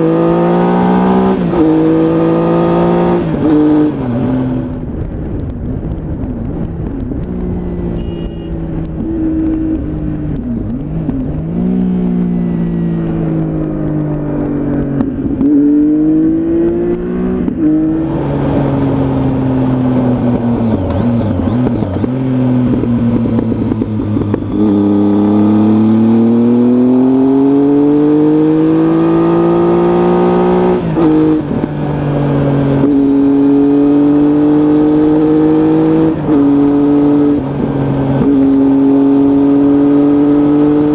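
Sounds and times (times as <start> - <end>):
motorcycle engine: 0.0 - 40.9
wind rush: 0.0 - 40.9.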